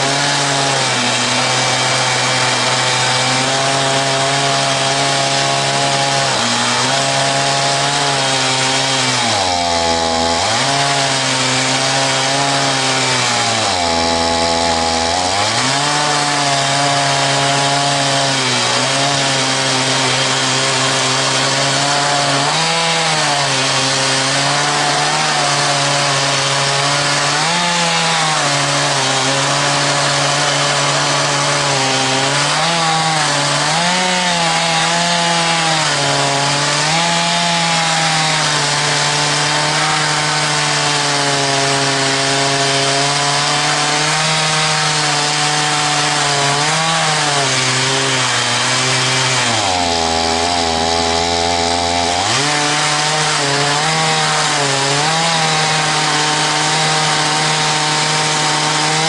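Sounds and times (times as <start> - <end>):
chainsaw ripping a log: 0.0 - 59.0.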